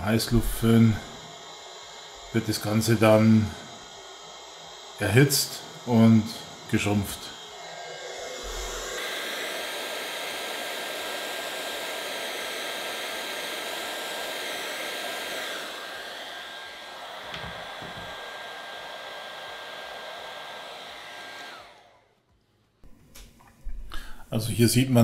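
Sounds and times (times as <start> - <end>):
heat gun blowing: 0.0 - 22.2.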